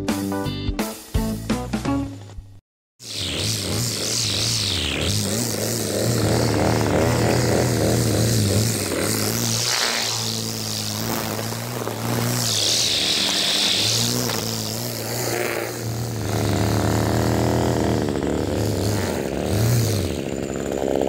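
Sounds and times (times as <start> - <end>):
small two-stroke engine idling: 3.0 - 21.0.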